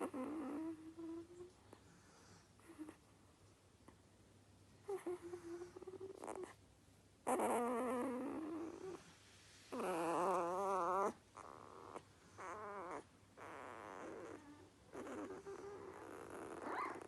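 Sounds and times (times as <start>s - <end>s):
puppy snoring: 0.0s - 3.0s, 4.8s - 6.6s, 7.2s - 17.0s.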